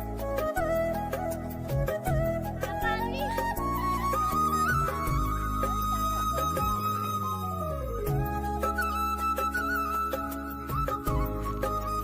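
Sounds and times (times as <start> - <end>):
folk flute melody: 0.0 - 12.0.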